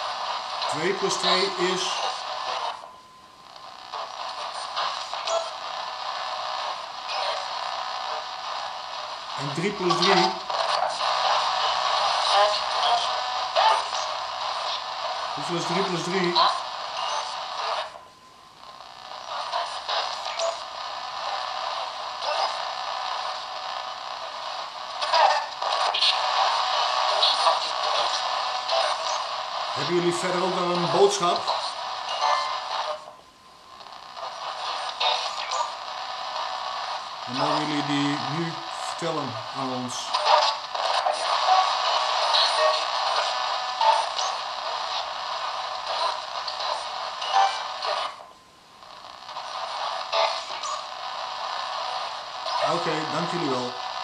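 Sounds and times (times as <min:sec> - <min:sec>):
radio scanning hiss and crackle: 0:00.0 - 0:54.0
snatches of broadcast voices: 0:00.0 - 0:54.0.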